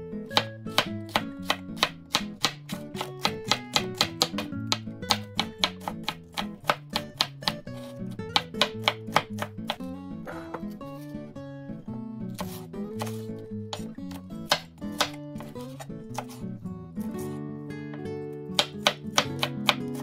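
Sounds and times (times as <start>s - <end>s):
background music: 0.0s - 20.0s
knife chopping onion on wood: 0.3s - 11.1s, 12.3s - 20.0s.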